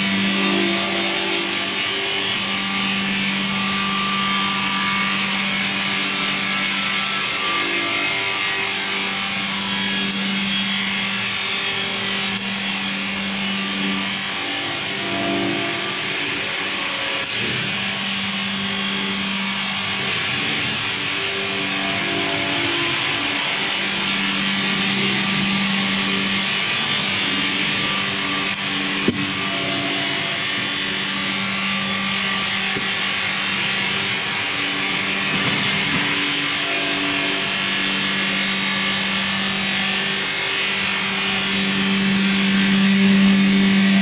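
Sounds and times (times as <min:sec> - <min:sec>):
mixer motors whirring: 0:00.0 - 0:44.0.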